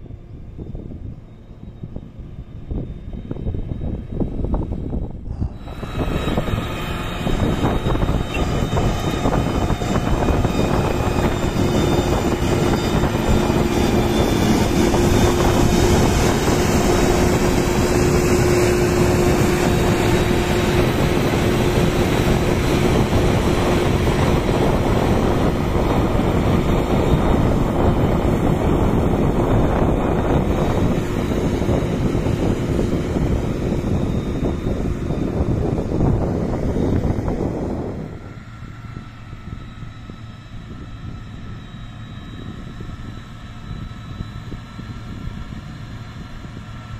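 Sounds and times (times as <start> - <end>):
motor grader diesel engine rumbling: 0.0 - 46.9.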